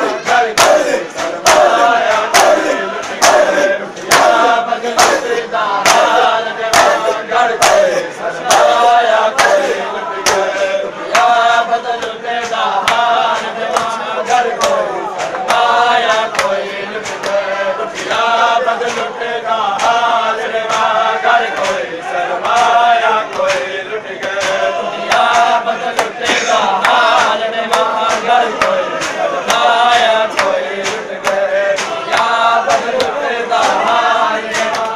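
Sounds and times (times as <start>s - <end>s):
hands slapping chests: 0.0s - 11.4s, 12.0s - 17.5s, 19.8s - 34.9s
men chanting together: 0.0s - 34.9s.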